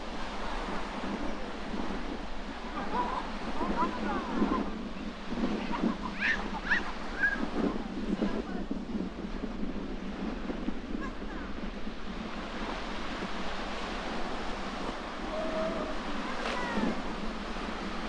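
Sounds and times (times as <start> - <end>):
sea waves breaking: 0.0 - 18.0
wind buffeting microphone: 0.0 - 18.0.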